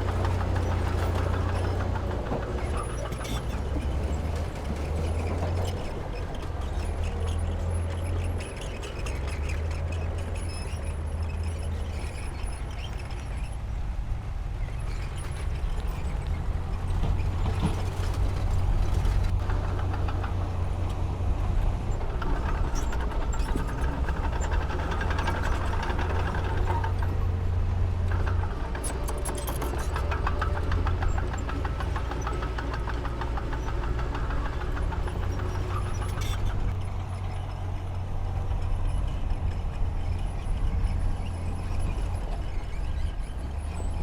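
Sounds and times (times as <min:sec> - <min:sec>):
heavy diesel engine working: 0:00.0 - 0:13.8, 0:14.7 - 0:44.0.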